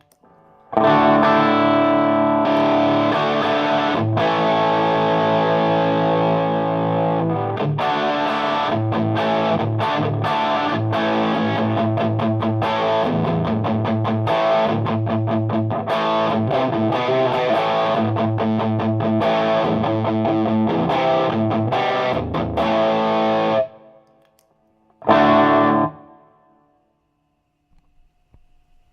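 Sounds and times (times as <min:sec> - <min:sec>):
distorted electric guitar riffing: 0:00.8 - 0:23.9, 0:25.0 - 0:26.4.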